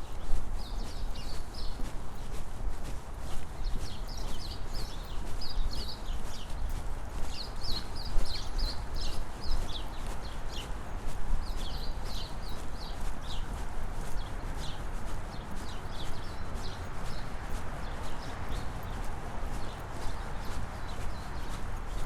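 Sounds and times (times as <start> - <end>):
brisk footsteps: 0.0 - 22.0
small birds chirping: 0.0 - 22.0.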